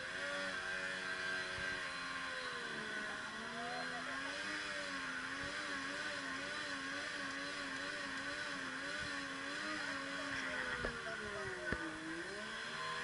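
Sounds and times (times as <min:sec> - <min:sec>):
off-road car engine revving: 0:00.0 - 0:13.0.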